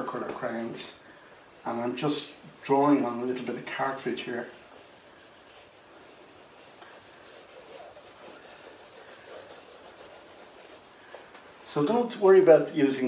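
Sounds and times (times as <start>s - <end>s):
crayon rubbing on paper: 1.5s - 12.0s.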